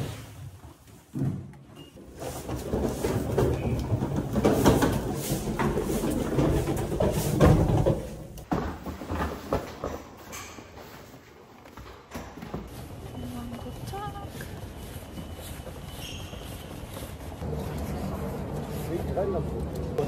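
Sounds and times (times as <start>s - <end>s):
suitcase wheels rolling and rattling: 0.9s - 20.0s.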